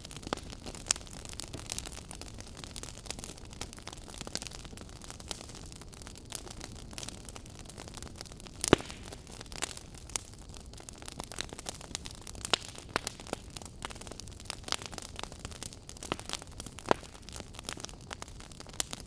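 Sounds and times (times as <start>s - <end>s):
burning wood pops and snaps: 0.0s - 19.0s
campfire crackling: 0.0s - 19.0s.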